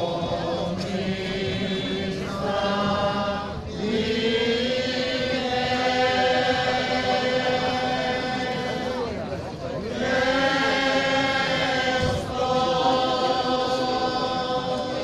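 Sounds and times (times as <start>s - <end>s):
men singing unaccompanied lament: 0.0s - 9.2s, 9.9s - 15.0s.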